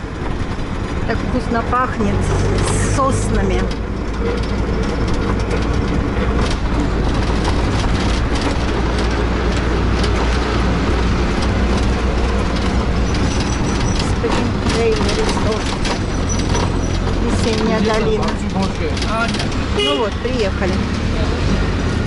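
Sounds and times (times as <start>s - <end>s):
engine rumble: 0.0s - 22.0s
road noise: 0.0s - 22.0s
light rattles: 0.1s - 21.0s.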